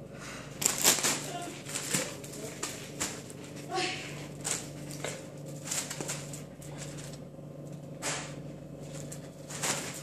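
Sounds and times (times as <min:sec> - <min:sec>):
foil balloon crinkling and knocking: 0:00.6 - 0:07.2, 0:08.0 - 0:10.0.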